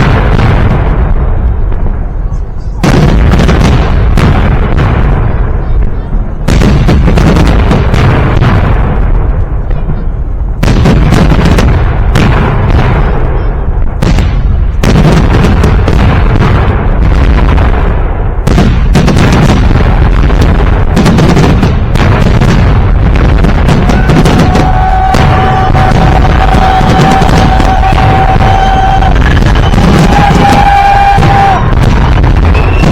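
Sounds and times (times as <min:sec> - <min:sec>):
deep rumble: 0:00.0 - 0:32.9
fireworks booms and cracks: 0:00.0 - 0:32.9.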